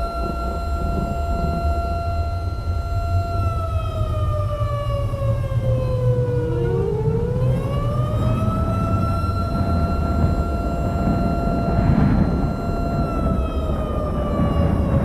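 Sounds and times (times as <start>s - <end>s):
steady low rumble: 0.0s - 15.0s
warning siren wailing: 0.0s - 15.0s.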